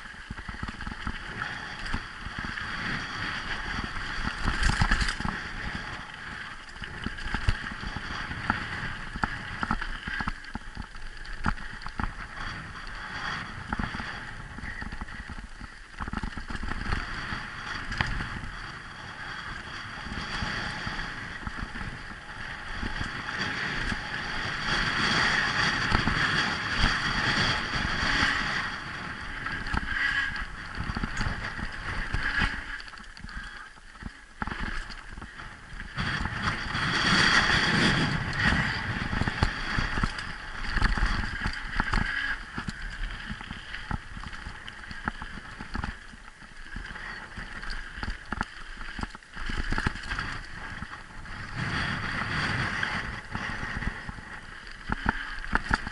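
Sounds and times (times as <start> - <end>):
bike clicking and rattling: 0.0 - 55.9
wind rushing over microphone: 0.0 - 55.9.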